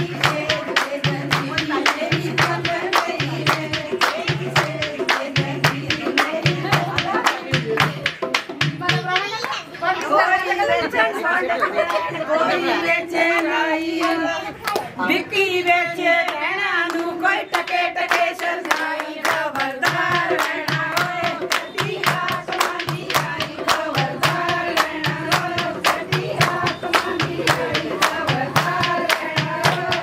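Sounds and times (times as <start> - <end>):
rhythmic hand clapping: 0.0 - 10.4, 13.2 - 15.0, 16.0 - 30.0.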